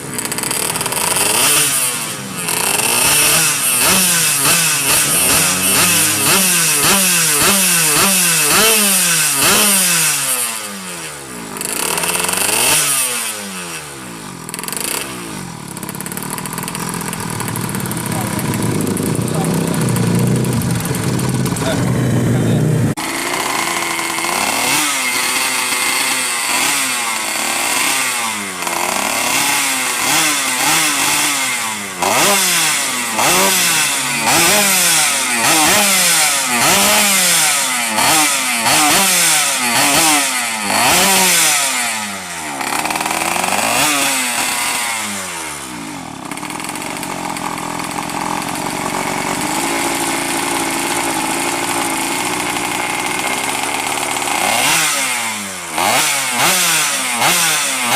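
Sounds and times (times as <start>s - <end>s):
two-stroke engine revving: 0.0s - 57.9s.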